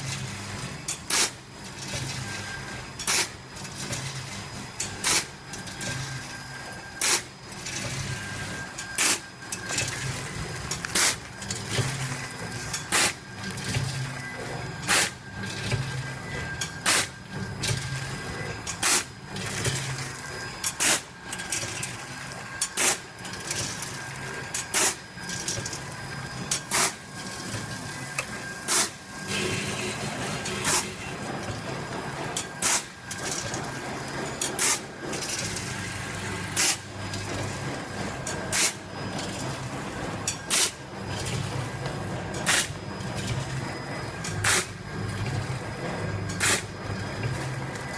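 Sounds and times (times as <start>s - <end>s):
mechanical hum: 0.0s - 47.9s.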